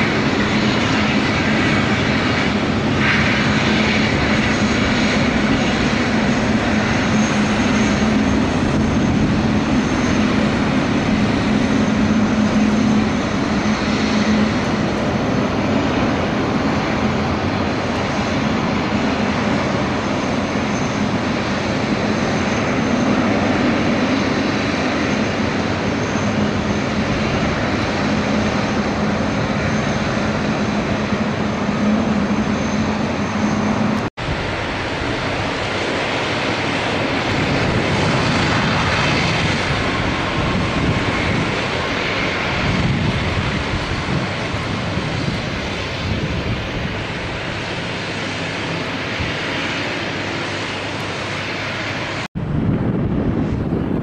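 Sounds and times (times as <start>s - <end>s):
jet engines rumble and whine: 0.0s - 54.0s.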